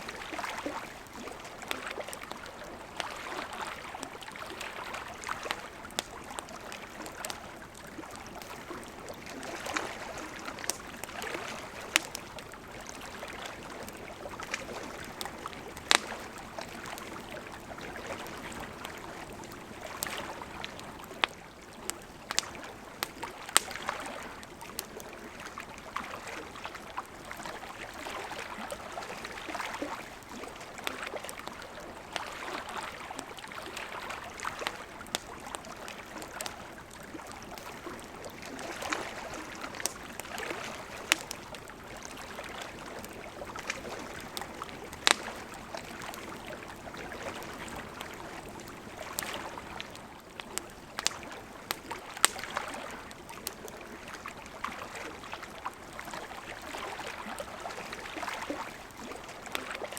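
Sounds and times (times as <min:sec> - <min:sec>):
campfire crackling: 0:00.0 - 0:59.9
lake water lapping at shore: 0:00.0 - 0:59.9.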